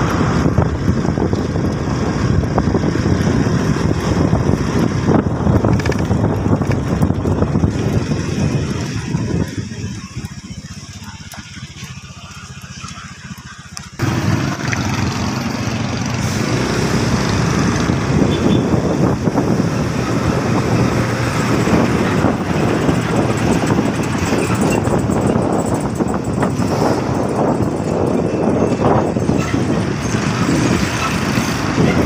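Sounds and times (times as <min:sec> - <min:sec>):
wind rushing over microphone: 0:00.0 - 0:12.0, 0:14.0 - 0:32.0
vehicle engine rumble: 0:00.0 - 0:32.0.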